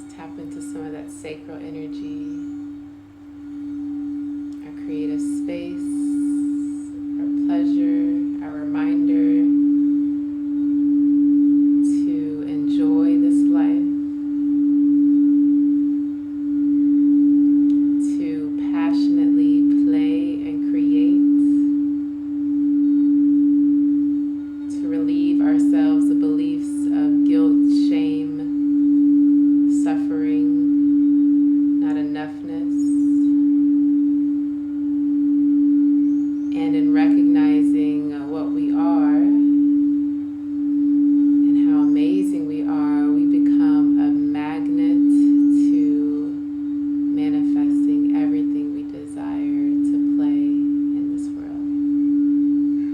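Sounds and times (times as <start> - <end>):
sustained low tone: 0.0 - 52.9.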